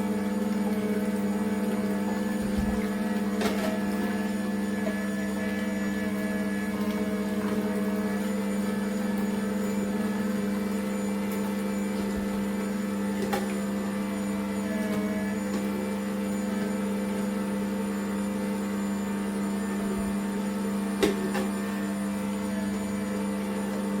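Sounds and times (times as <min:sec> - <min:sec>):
juicer motor humming: 0:00.0 - 0:24.0.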